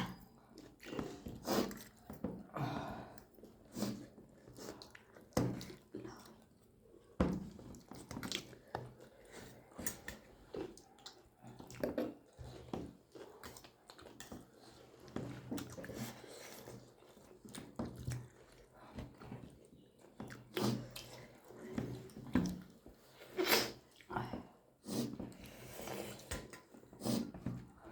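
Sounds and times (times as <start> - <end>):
people chewing food: 0.0 - 27.9.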